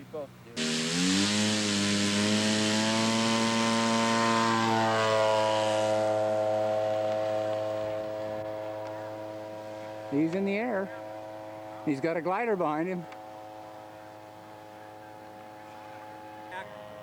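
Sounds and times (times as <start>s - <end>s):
model plane engine running hard: 0.6s - 17.0s.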